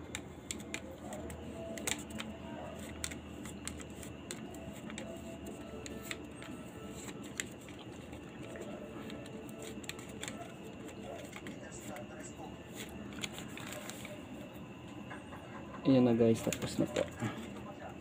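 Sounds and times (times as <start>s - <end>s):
paper rustling and crinkling: 0.4s - 14.5s, 16.3s - 17.6s.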